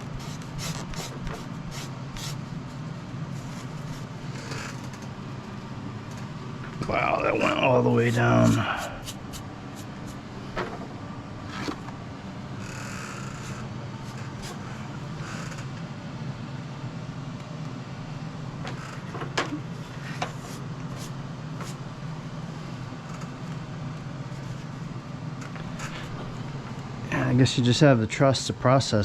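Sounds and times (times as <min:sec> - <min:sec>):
low room hum: 0:00.0 - 0:29.0.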